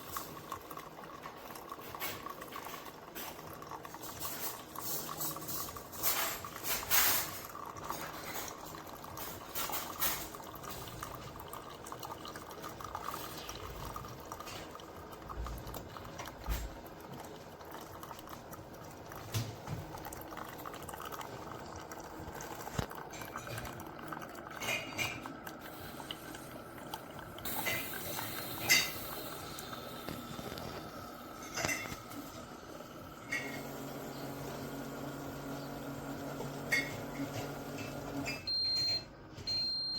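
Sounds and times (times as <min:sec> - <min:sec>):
water gurgling and trickling: 0:00.0 - 0:35.4.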